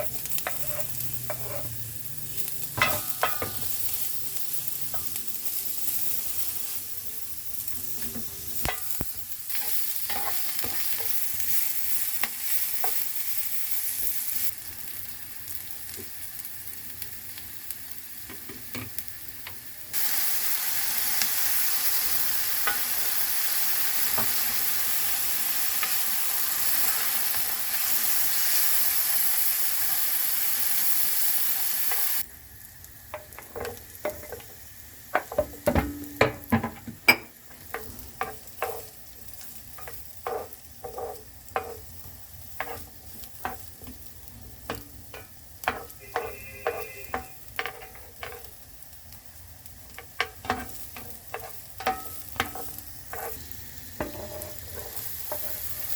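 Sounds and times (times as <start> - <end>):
utensil stirring in a pan: 0.0 - 14.9, 19.5 - 55.9
food sizzling in hot oil: 0.0 - 55.9.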